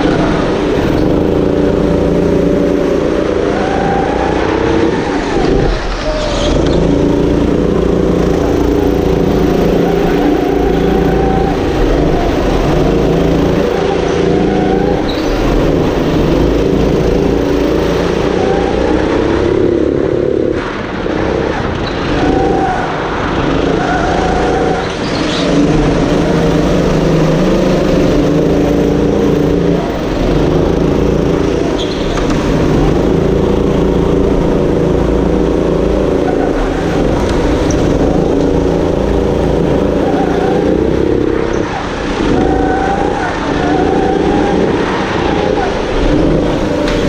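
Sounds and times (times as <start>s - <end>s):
go-kart engine racing: 0.0s - 47.0s.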